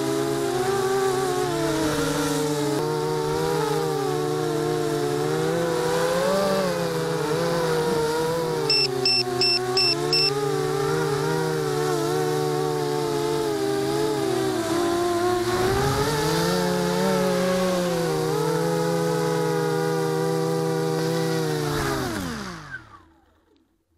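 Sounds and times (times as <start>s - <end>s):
quadcopter motors buzzing: 0.0s - 23.6s.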